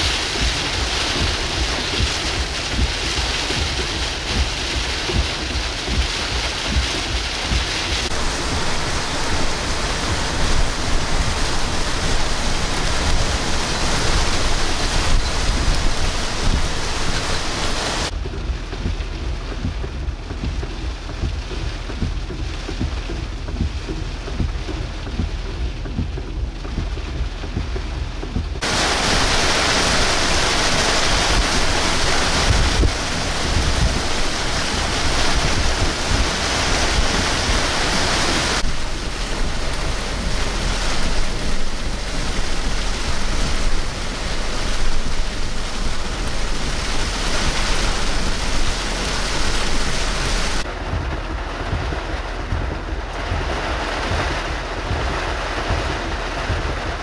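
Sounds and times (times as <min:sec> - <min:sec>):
breaking surf: 0:00.0 - 0:18.2, 0:28.6 - 0:57.0
wind and rain: 0:00.0 - 0:57.0
wind buffeting microphone: 0:00.0 - 0:57.0.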